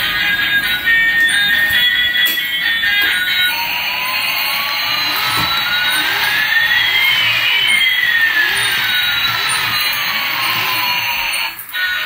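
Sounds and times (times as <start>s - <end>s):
toy jet engine sound effect: 0.0s - 12.0s.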